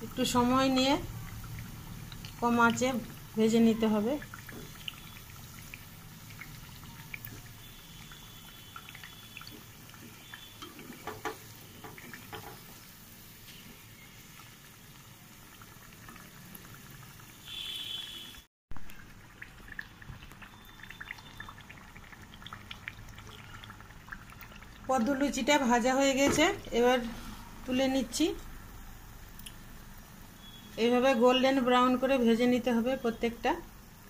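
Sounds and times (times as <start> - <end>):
oil sizzling: 0.0 - 34.0.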